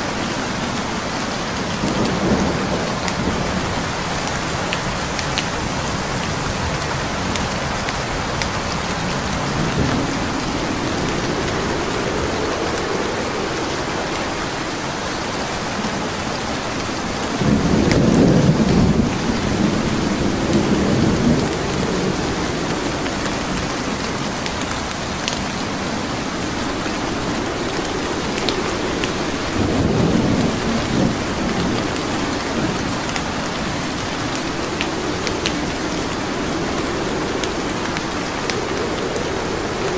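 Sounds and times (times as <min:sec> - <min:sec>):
heavy rain: 0:00.0 - 0:39.9
wood fire crackling: 0:00.6 - 0:39.9
thunder rolling: 0:01.4 - 0:39.9.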